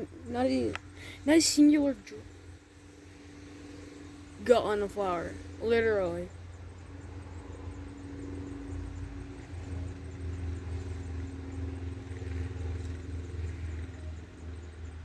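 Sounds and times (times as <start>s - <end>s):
vehicle engine droning past: 2.2s - 15.0s.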